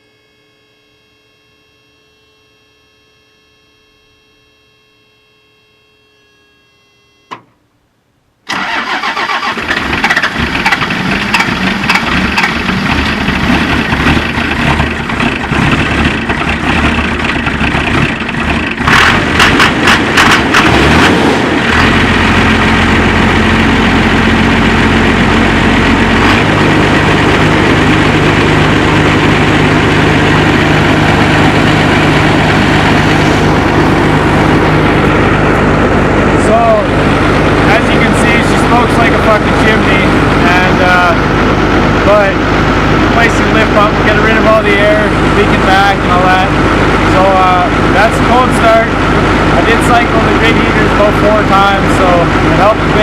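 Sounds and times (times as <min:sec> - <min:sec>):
diesel engine cranking: 0:08.5 - 0:53.0
diesel engine idling: 0:08.5 - 0:53.0.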